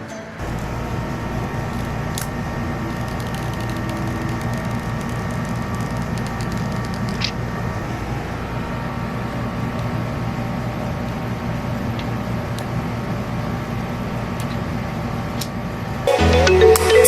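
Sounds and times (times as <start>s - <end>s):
low hum and hiss: 0.4s - 17.0s.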